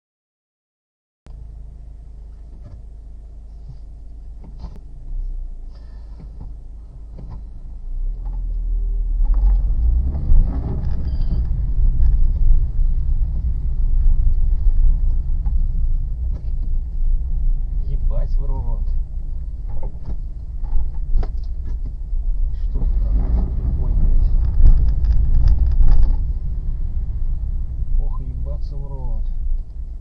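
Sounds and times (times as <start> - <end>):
car engine and road noise: 1.3 - 30.0.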